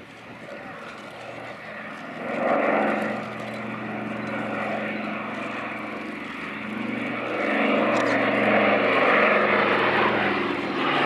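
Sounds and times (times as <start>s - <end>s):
propeller drone: 0.0s - 11.0s
radial piston engines in flight: 0.0s - 11.0s.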